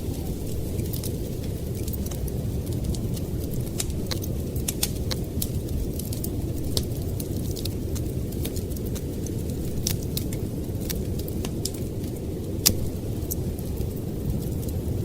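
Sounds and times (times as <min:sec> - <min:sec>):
blizzard wind rumble: 0:00.0 - 0:15.0
wood fire crackling: 0:00.0 - 0:15.0.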